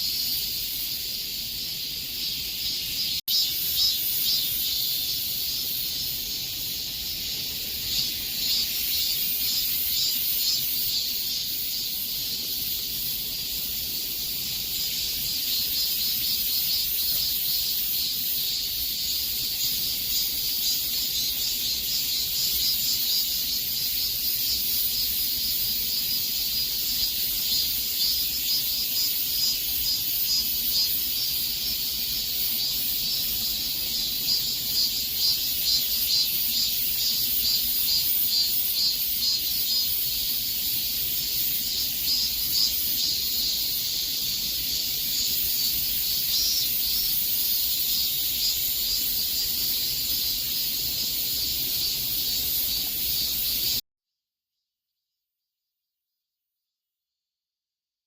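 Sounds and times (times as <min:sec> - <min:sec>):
cicadas singing: 0:00.0 - 0:53.8.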